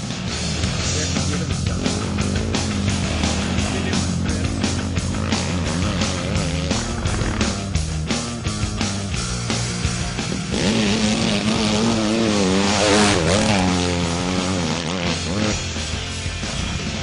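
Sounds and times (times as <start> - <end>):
background music: 0.0 - 17.0
motocross bike engine revving: 0.3 - 16.2.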